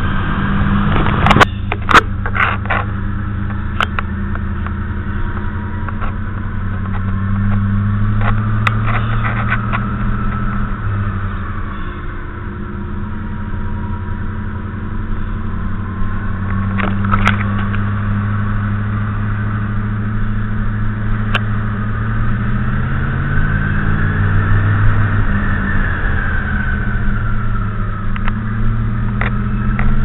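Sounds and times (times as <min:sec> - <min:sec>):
car engine running: 0:00.0 - 0:30.0
gear whine: 0:00.0 - 0:30.0.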